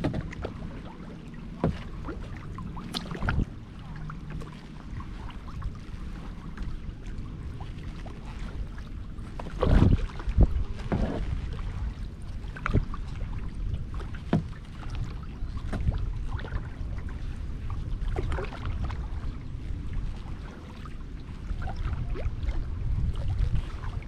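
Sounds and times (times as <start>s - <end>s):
paddle splashing in water: 0.0s - 24.0s.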